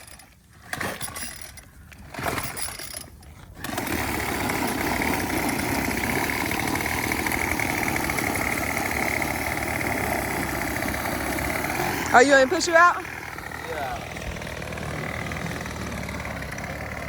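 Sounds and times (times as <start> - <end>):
string trimmer engine starting: 0.0 - 17.0
engine running with high whine: 2.9 - 17.0.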